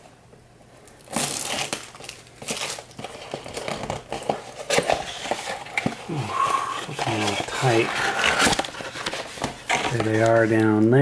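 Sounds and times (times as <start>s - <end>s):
packaging crinkling torn open: 0.9s - 10.6s.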